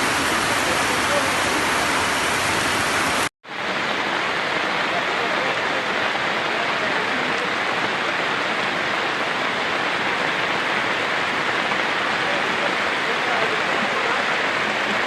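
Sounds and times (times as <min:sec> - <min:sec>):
flowing floodwater: 0:00.0 - 0:15.0
heavy rain: 0:00.0 - 0:15.0.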